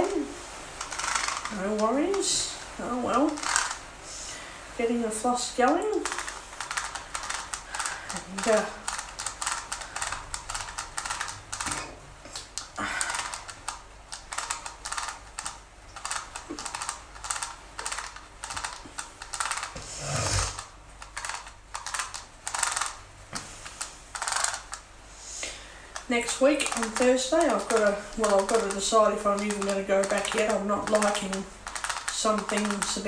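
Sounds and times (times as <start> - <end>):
dental floss clicks and rustles: 0.8 - 2.4, 3.1 - 3.8, 5.6 - 19.8, 20.6 - 24.9, 25.9 - 33.0.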